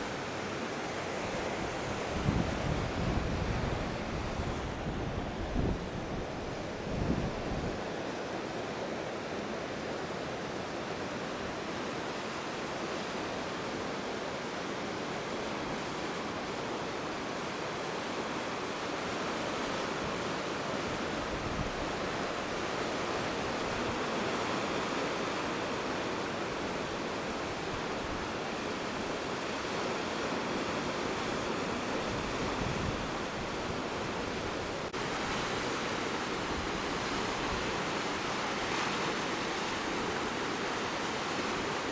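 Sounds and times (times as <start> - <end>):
wind: 0.0 - 41.9.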